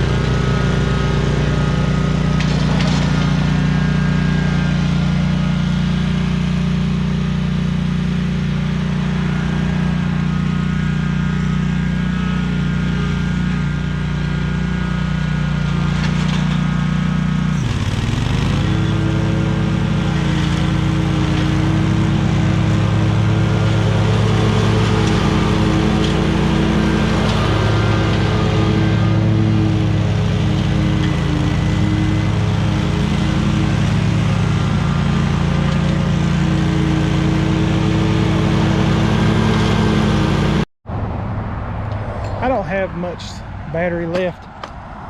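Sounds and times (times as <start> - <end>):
small gas engine cutting grass: 0.0 - 40.7.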